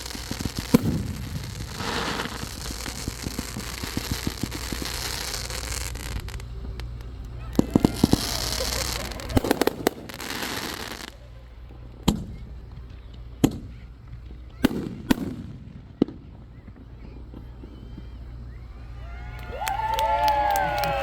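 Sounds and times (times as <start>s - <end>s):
firework shell bursts: 0.0s - 18.9s
fireworks crackling fizz: 0.0s - 21.0s.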